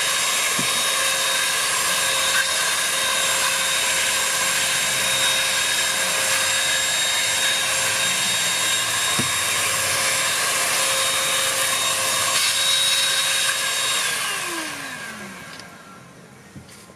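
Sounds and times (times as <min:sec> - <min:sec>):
handheld vacuum running: 0:00.0 - 0:16.0
vacuum motor winding down: 0:00.0 - 0:16.1.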